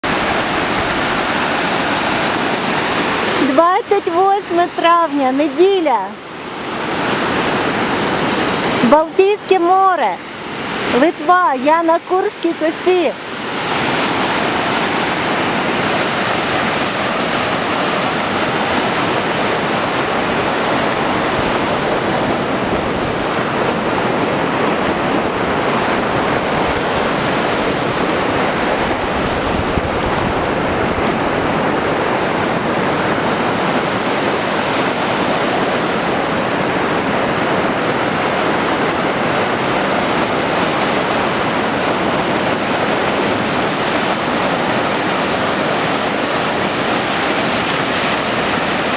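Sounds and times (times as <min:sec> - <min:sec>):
surf washing on shore: 0:00.0 - 0:48.9.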